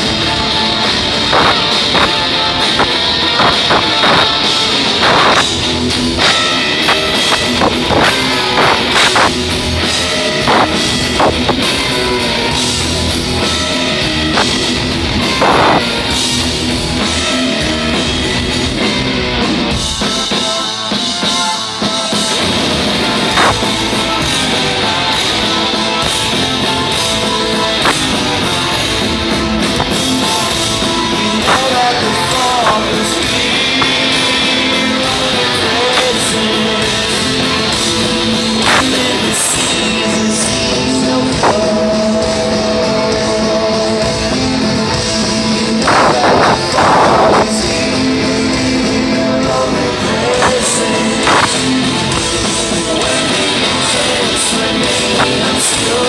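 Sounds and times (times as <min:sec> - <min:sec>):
live rock band with singer: 0:00.0 - 0:56.0.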